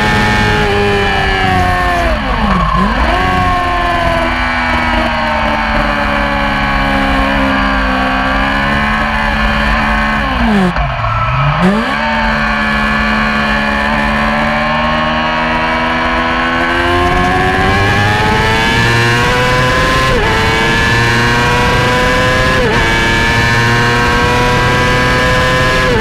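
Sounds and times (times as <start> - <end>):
motorcycle engine accelerating hard: 0.0 - 26.0.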